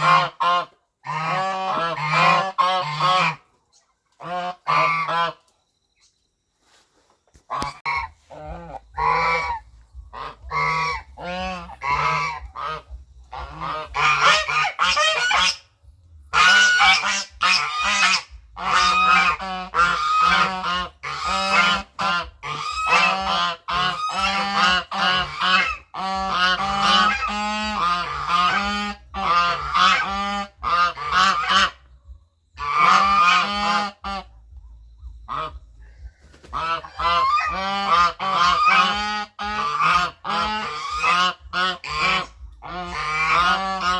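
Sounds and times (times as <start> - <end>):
goose honking: 0.0 - 3.5, 4.2 - 5.5, 7.4 - 15.7, 16.3 - 31.9, 32.6 - 34.6, 35.2 - 35.8, 36.4 - 43.9.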